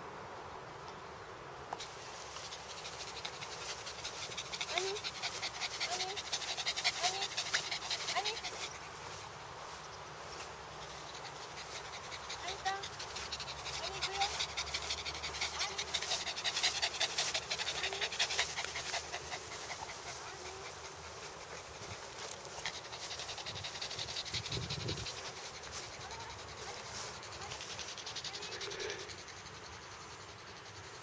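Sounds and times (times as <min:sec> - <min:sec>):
dog panting: 0:02.4 - 0:09.2, 0:10.8 - 0:31.0.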